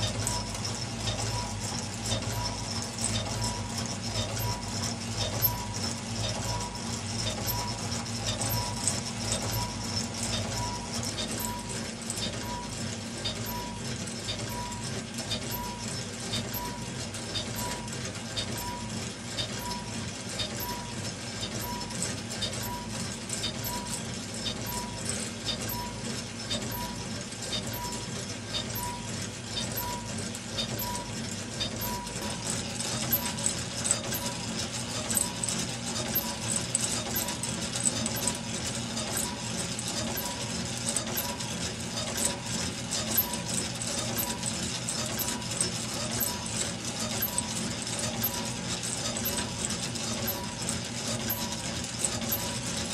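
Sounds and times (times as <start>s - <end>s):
light rhythmic ticking: 0.0s - 52.9s.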